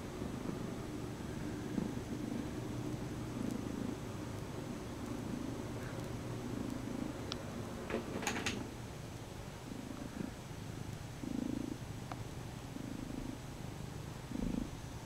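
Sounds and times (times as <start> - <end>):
cat purring: 0.0 - 8.8, 9.4 - 15.0.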